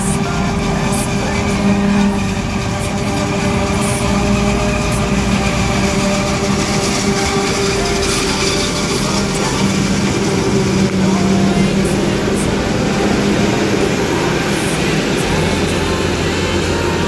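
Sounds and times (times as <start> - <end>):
heavy vehicle engine droning: 0.0 - 17.0.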